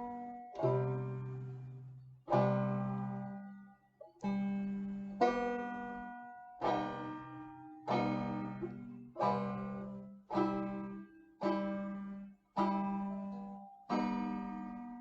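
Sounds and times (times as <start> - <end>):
strummed string chords: 0.0 - 15.0.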